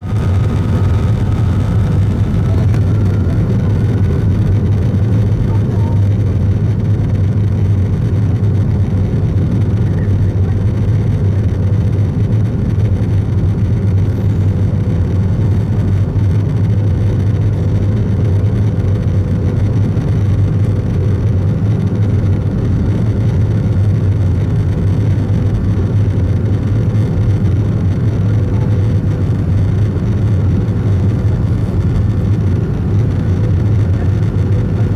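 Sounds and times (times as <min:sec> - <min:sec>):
faint rising whine: 0:00.0 - 0:11.6, 0:12.2 - 0:34.9
jet engines rumbling: 0:00.0 - 0:34.9.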